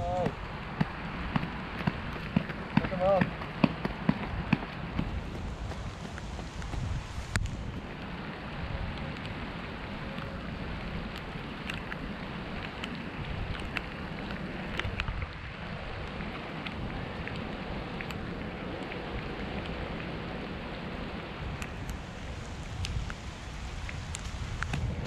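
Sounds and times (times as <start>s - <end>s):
raindrops ticking on camera: 0.0s - 25.0s
wind on microphone: 0.0s - 25.0s.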